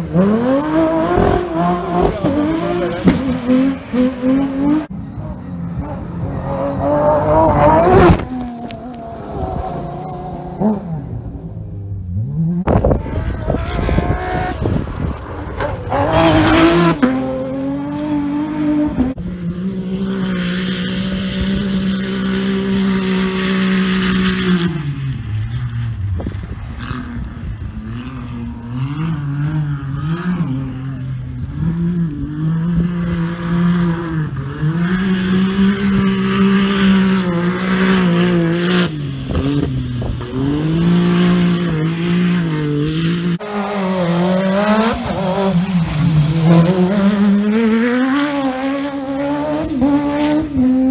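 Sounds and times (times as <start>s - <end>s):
buggy engine revving: 0.0s - 50.9s.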